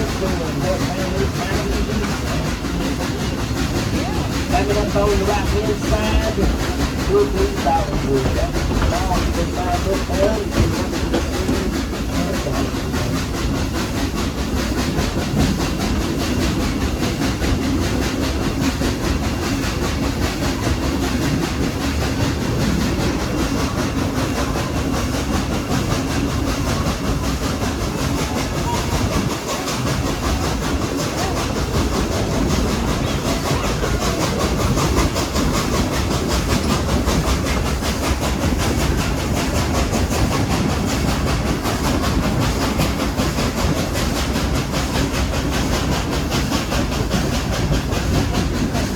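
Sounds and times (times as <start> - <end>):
train wheels rattling on track: 0.0 - 48.9.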